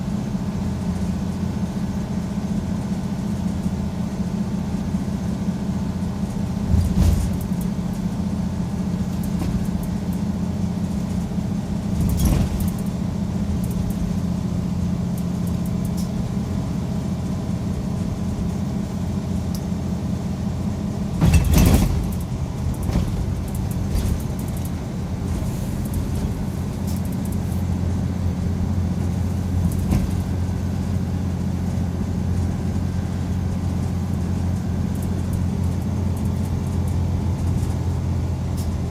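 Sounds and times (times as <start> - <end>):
bus engine drone: 0.0 - 38.9.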